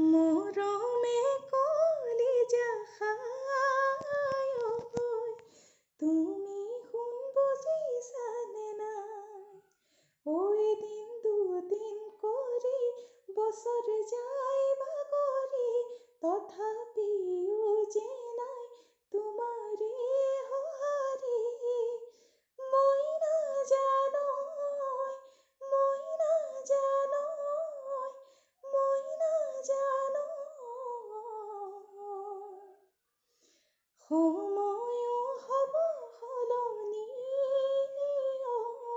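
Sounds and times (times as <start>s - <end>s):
woman singing unaccompanied: 0.0s - 5.4s, 6.0s - 9.6s, 10.3s - 32.7s, 34.0s - 38.9s.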